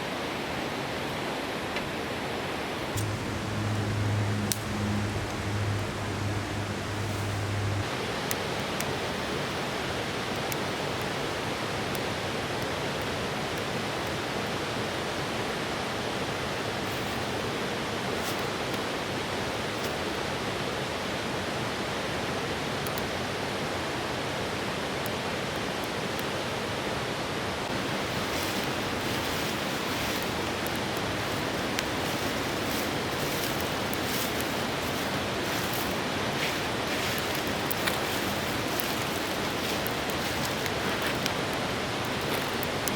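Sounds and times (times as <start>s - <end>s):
river water rushing: 0.0s - 42.9s.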